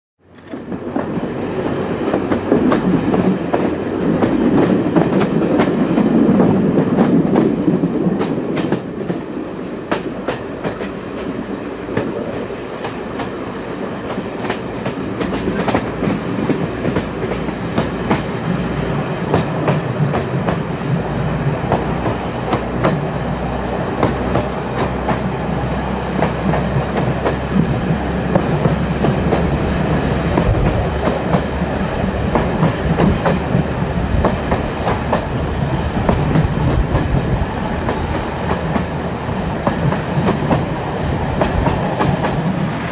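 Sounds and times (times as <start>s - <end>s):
train wheels clicking over track: 0.3s - 42.9s.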